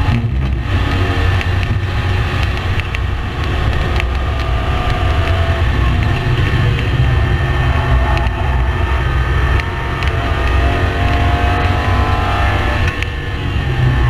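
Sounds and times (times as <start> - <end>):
race car engine running: 0.0 - 14.0
wind and road noise: 0.0 - 14.0.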